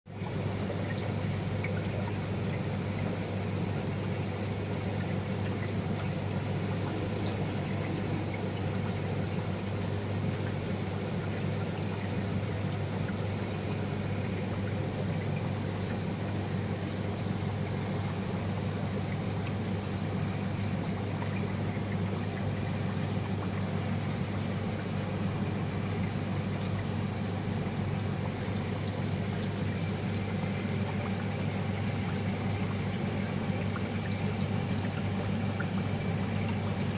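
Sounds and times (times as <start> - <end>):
aquarium pump hum: 0.1 - 36.9
trickling water: 0.1 - 36.9.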